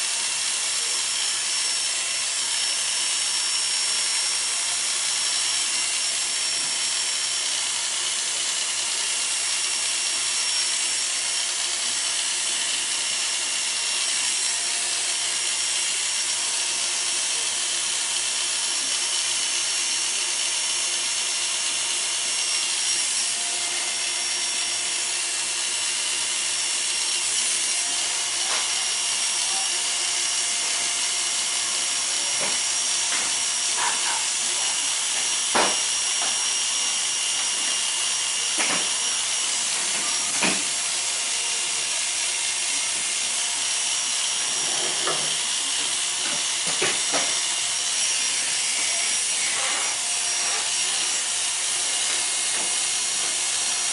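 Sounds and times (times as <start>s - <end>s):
electric hair clippers buzzing: 0.0s - 53.9s.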